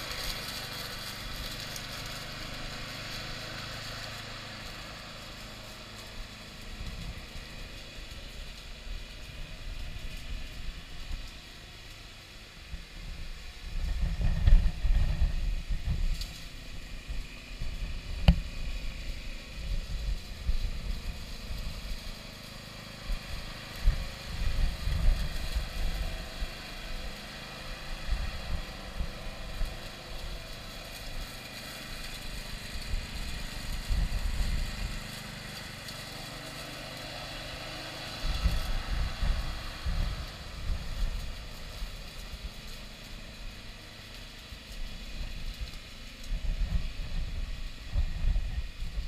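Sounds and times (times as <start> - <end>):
lawn mower running: 0.0 - 49.0.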